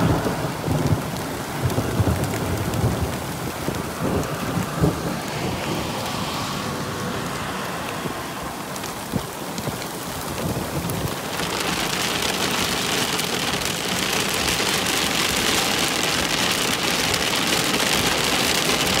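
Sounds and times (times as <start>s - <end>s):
heavy rain pelting: 0.0s - 19.0s.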